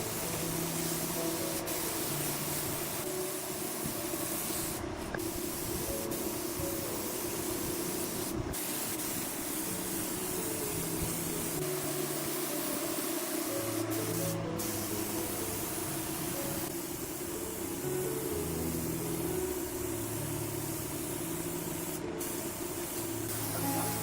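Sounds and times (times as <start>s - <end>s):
spray gun hissing: 0.0s - 24.0s.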